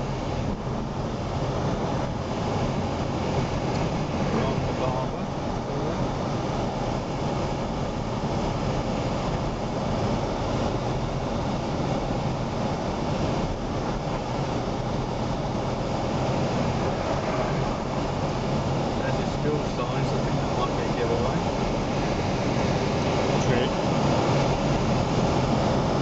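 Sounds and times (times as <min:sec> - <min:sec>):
car engine and tyre noise: 0:00.0 - 0:26.0
constant low hum: 0:00.0 - 0:26.0.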